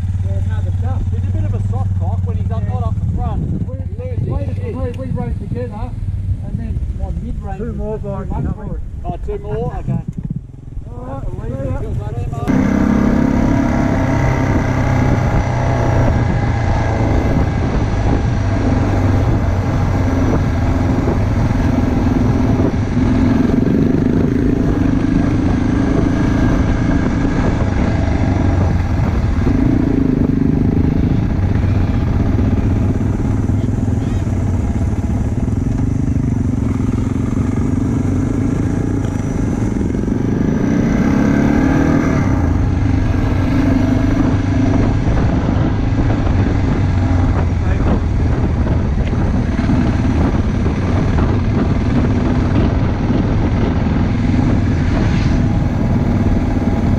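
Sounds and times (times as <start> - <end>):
motorcycle engine revving: 0.0 - 8.9, 9.6 - 56.9
wind rumble: 0.0 - 56.9.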